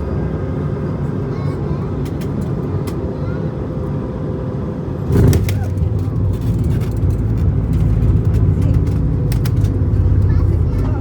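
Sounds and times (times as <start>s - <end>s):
loud low rumble of airliner: 0.0s - 11.0s.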